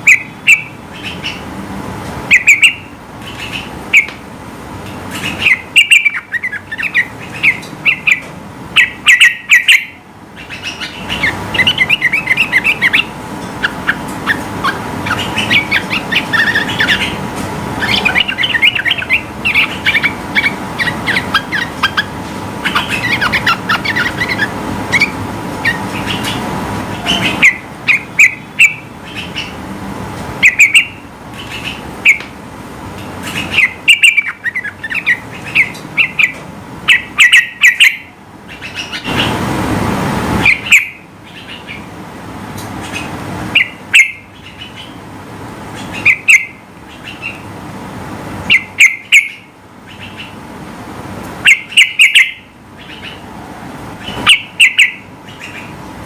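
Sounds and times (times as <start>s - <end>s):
bulbul singing: 0.0s - 1.5s, 2.3s - 29.6s, 30.4s - 32.4s, 33.0s - 39.4s, 40.4s - 45.1s, 45.7s - 47.5s, 48.5s - 50.4s, 51.4s - 53.3s, 54.0s - 55.8s.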